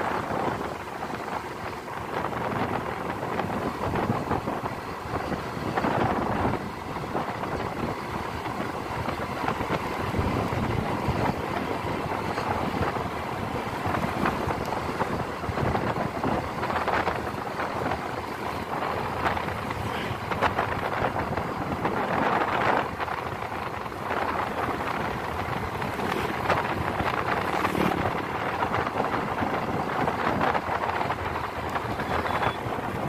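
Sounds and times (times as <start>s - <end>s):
motorbike road noise: 0.0s - 33.0s
wind rushing over microphone: 0.0s - 33.0s.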